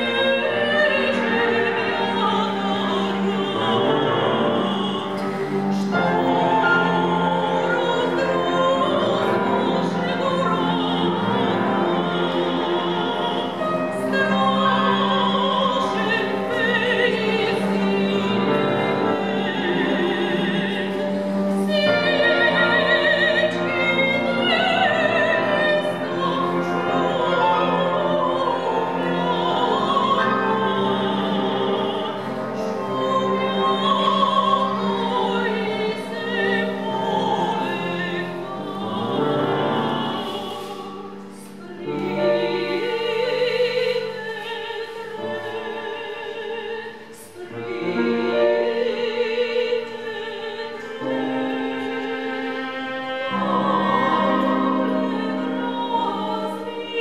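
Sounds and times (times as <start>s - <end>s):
piano accompaniment: 0.0s - 57.0s
soprano singing with vibrato: 0.0s - 57.0s.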